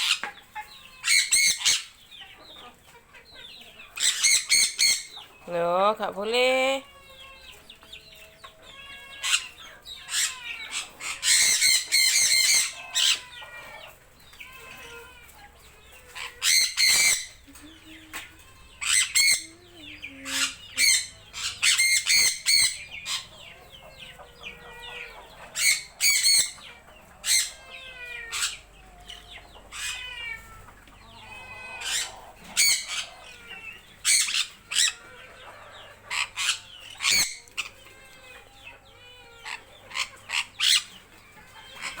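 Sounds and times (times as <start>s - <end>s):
parrots squawking: 0.0s - 1.9s, 4.0s - 5.2s, 8.6s - 30.4s, 31.1s - 41.0s.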